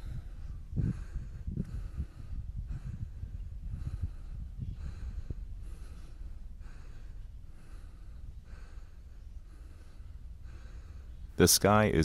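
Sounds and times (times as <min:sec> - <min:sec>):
person breathing: 0:00.0 - 0:11.3
low steady rumble: 0:00.0 - 0:12.0.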